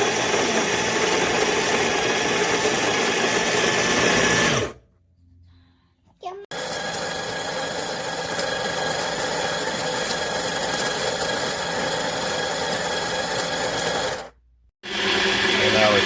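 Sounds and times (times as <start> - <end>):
electric coffee grinder whining: 0.0 - 4.8, 6.5 - 16.0.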